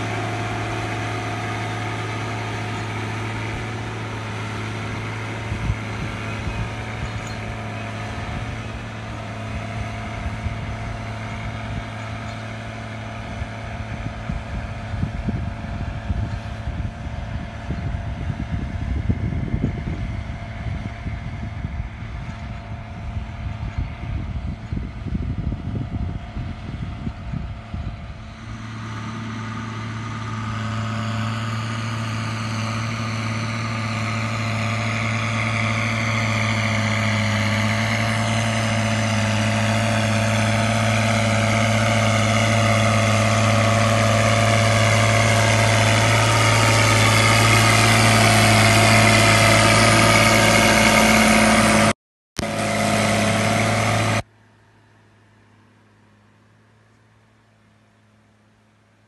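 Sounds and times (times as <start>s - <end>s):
wind rumbling on microphone: 0.0s - 51.9s
tractor diesel engine under load: 0.0s - 59.0s.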